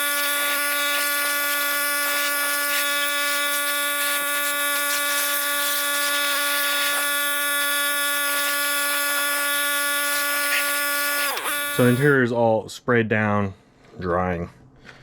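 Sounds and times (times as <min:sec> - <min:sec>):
small electric motor whine: 0:00.0 - 0:12.2.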